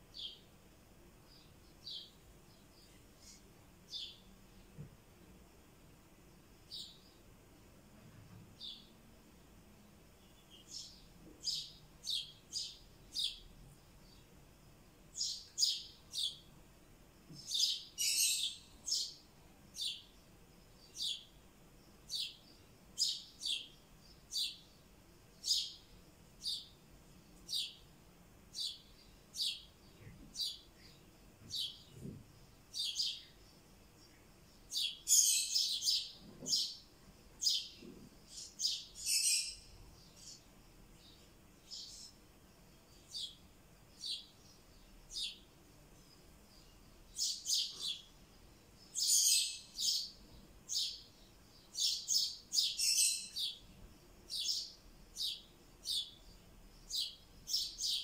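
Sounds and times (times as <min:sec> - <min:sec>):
lovebird chirping: 0:00.0 - 0:00.6, 0:01.2 - 0:04.7, 0:06.6 - 0:07.2, 0:10.1 - 0:14.3, 0:15.1 - 0:16.5, 0:17.2 - 0:20.2, 0:20.8 - 0:21.4, 0:22.0 - 0:27.9, 0:28.5 - 0:58.0.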